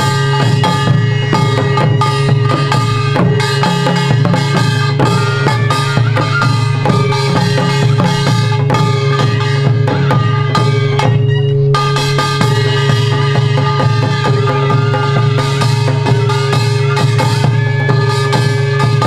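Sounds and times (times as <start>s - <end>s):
barrel drums beaten rapidly: 0.0s - 19.0s
steady ringing tone: 0.0s - 19.0s.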